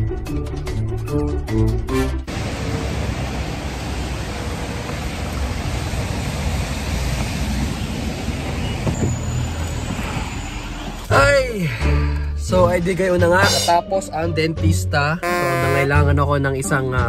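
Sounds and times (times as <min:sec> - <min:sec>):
city street noise: 0:00.0 - 0:17.0.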